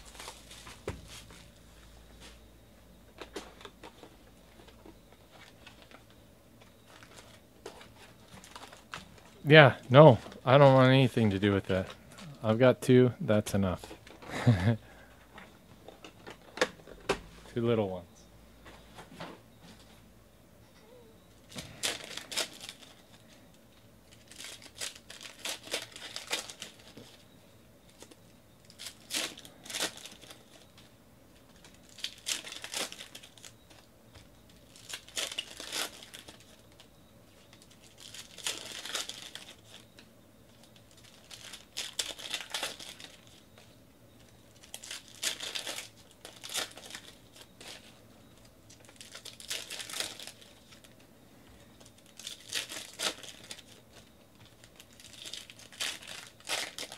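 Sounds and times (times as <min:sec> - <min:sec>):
foil wrappers crinkling: 0:00.0 - 0:02.5, 0:03.2 - 0:12.0, 0:21.4 - 0:56.9.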